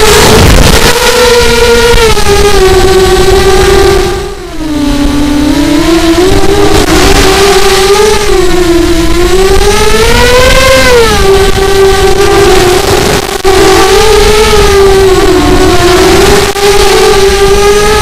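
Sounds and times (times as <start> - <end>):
quadcopter propellers whining: 0.0 - 18.0
wind rumble on microphone: 0.0 - 18.0.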